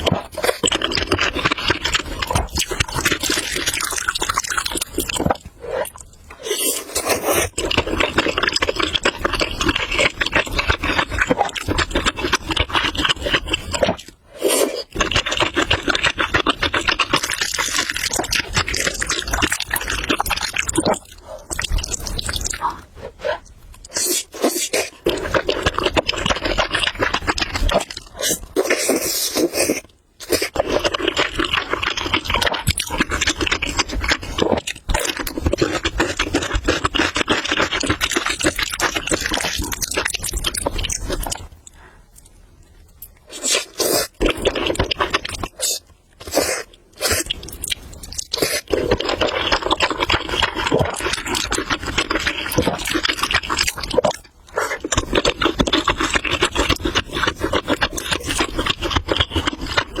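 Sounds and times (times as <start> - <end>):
wet slurping and chewing: 0.0 - 60.0.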